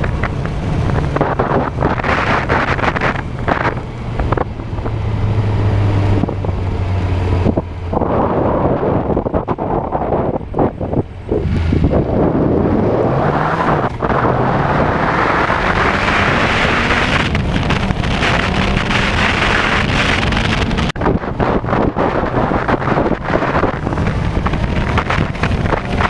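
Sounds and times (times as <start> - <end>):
motorcycle engine accelerating: 0.0 - 26.0
wind rushing over microphone: 0.0 - 26.0.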